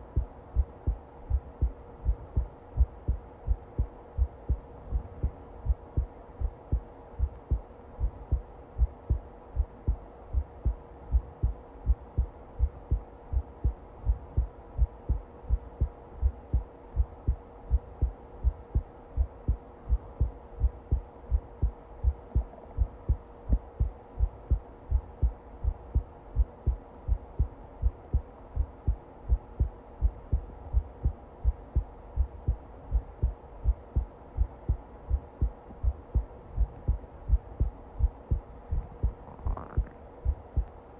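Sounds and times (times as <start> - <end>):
heartbeat thumps: 0.0 - 40.7
faint steady hum: 0.0 - 40.9.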